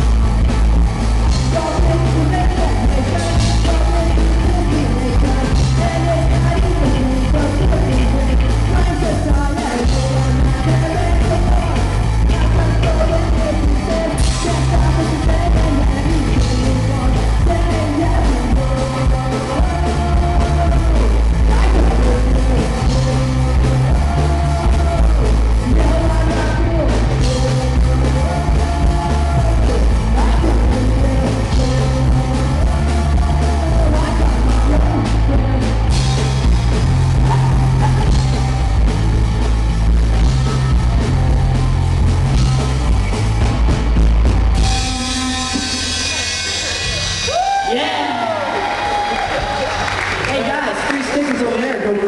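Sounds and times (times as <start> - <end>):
lead singer singing: 0.0 - 43.2
rock band playing: 0.0 - 52.0.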